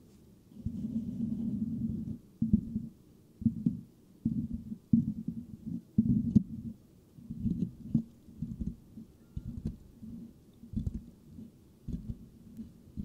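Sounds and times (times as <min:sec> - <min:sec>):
fingertips scratching microphone grille: 0:00.6 - 0:13.0.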